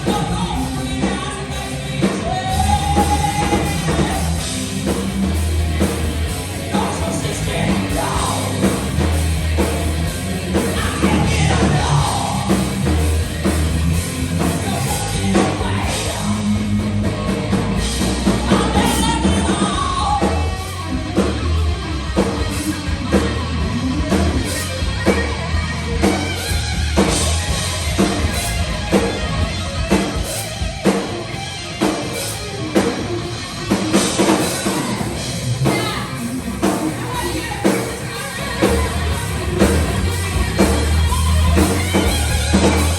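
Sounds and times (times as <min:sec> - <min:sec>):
heavy metal band playing: 0:00.0 - 0:42.9
steady drum beat: 0:00.0 - 0:42.9.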